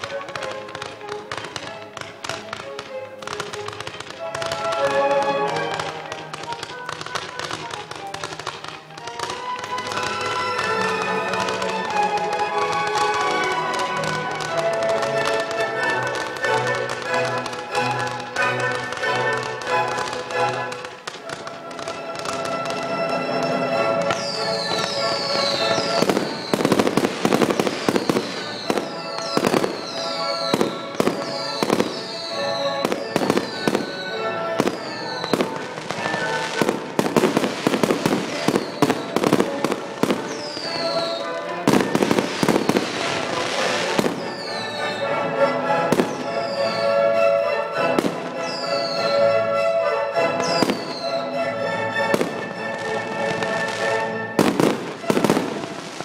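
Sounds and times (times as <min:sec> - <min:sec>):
fireworks bursting: 0:00.0 - 0:45.1, 0:45.8 - 0:49.3, 0:50.2 - 0:56.0
music from loudspeakers: 0:00.0 - 0:56.0.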